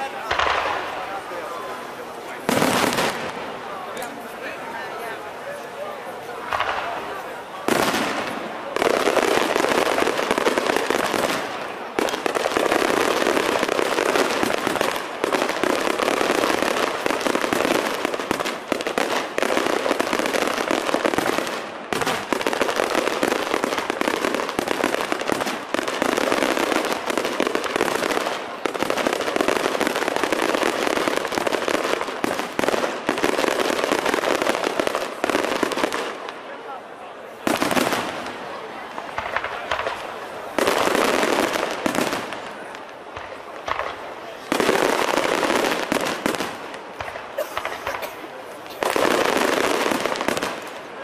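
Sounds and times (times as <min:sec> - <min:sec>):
fireworks crackling bangs: 0:00.0 - 0:51.0.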